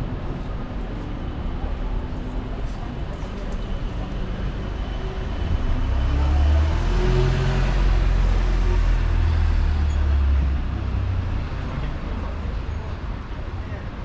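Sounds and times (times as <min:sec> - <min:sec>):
heavy vehicle engine rumbling: 0:00.0 - 0:14.0
traffic noise: 0:00.0 - 0:14.0.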